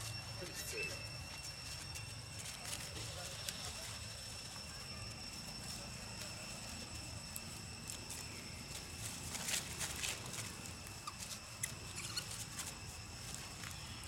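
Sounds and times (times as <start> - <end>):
dry leaves crackling and rustling: 0.0 - 14.0
steady high-pitched whine: 0.0 - 14.0.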